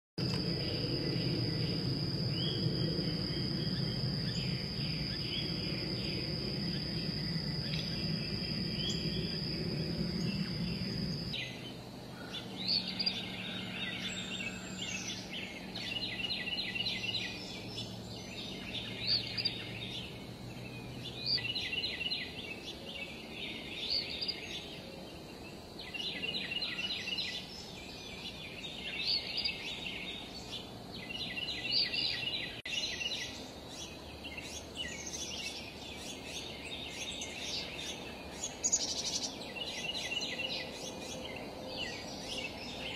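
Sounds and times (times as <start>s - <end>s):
faint low hum: 0.2s - 42.9s
songbirds chirping: 0.2s - 42.9s.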